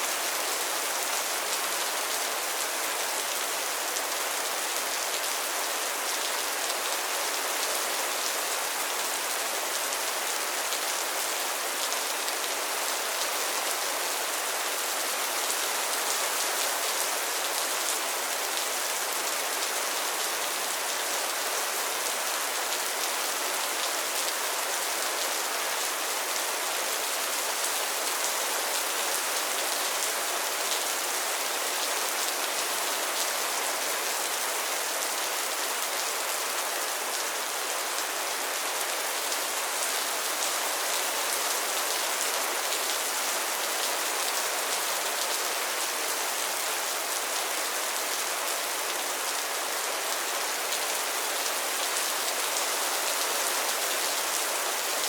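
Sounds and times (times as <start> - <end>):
rain falling on a pond: 0.0 - 55.0.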